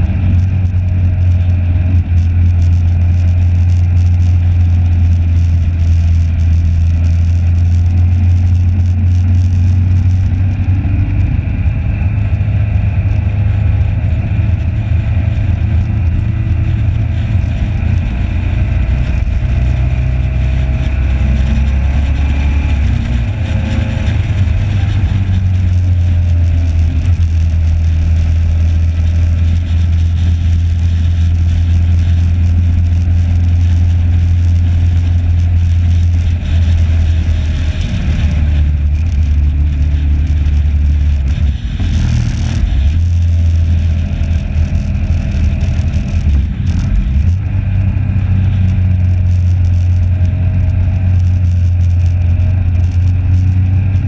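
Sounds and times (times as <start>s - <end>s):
motorcycle engine running: 0.0s - 54.0s
wind rumble on microphone: 0.0s - 54.0s.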